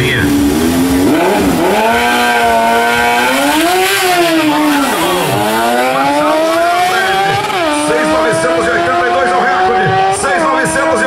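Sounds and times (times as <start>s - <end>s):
motorcycles accelerating: 0.0s - 11.0s.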